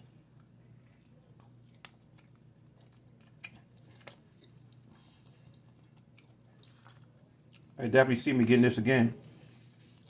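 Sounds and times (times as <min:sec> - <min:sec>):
faint chewing: 0:00.0 - 0:07.8, 0:09.2 - 0:10.0.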